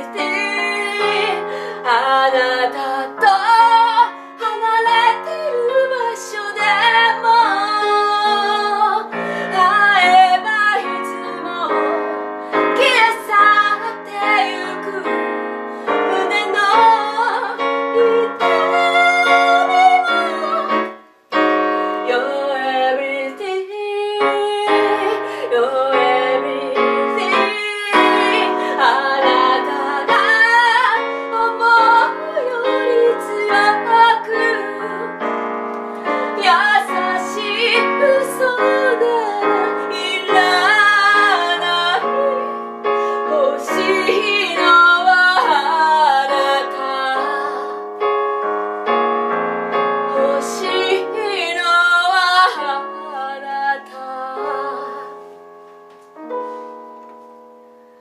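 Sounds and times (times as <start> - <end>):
woman singing pop ballad: 0.0 - 20.9, 21.7 - 48.0, 50.1 - 55.4
electronic keyboard piano sound: 0.0 - 58.0.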